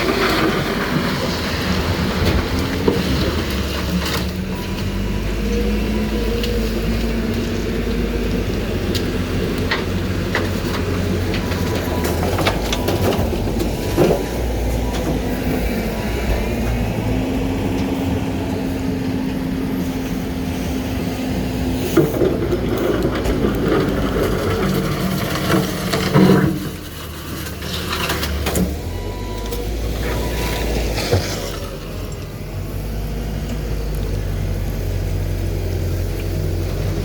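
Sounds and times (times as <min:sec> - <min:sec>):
garbage truck diesel engine revving: 0:00.0 - 0:37.0.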